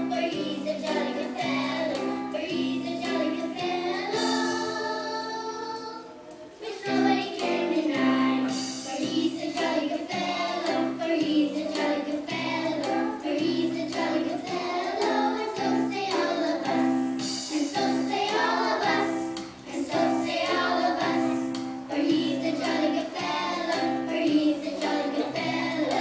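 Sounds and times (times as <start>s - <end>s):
children singing: 0.0s - 26.0s
instrumental accompaniment: 0.0s - 26.0s.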